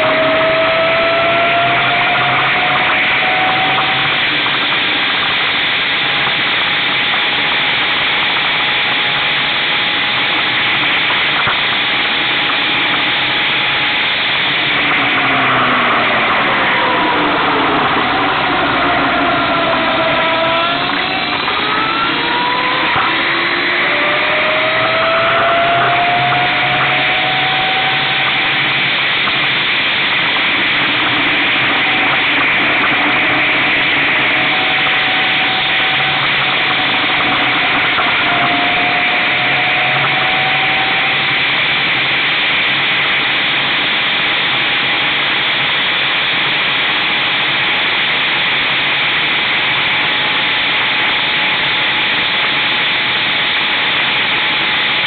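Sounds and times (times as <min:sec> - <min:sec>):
wind and road noise: 0:00.0 - 0:45.7
electric motor whine: 0:00.0 - 0:48.5.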